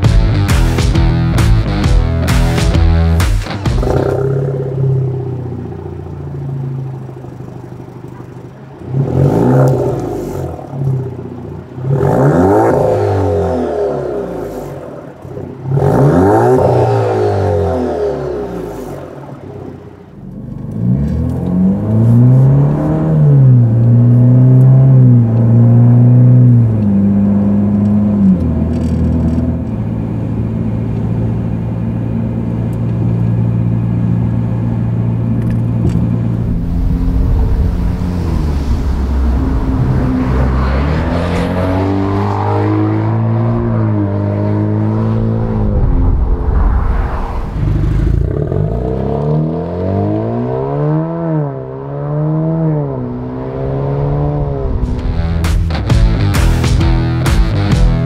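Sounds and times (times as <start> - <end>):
car engine revving and accelerating: 0.0 - 31.3, 32.7 - 58.0.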